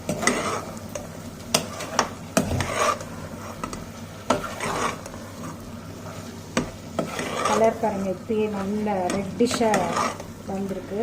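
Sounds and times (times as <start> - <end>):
spoon stirring and scraping pot: 0.0 - 11.0.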